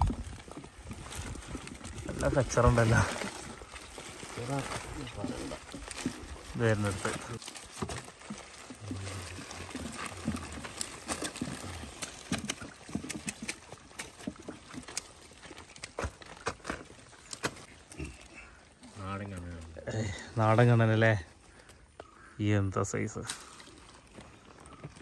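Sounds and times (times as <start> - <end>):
rustling of wet leaves and plastic: 0.0 - 25.0.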